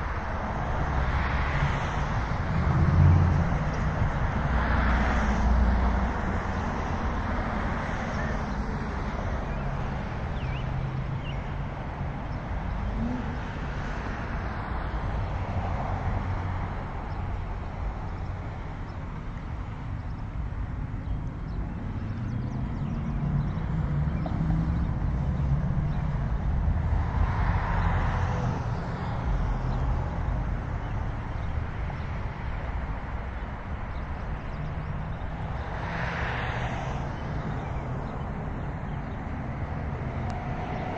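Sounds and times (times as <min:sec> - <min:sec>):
low traffic rumble: 0:00.0 - 0:40.9
vehicles passing: 0:00.0 - 0:40.9.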